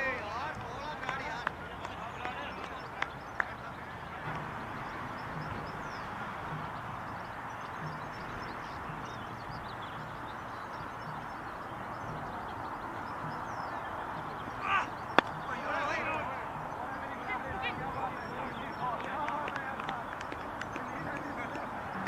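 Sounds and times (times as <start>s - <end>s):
steady outdoor background noise: 0.0s - 22.0s.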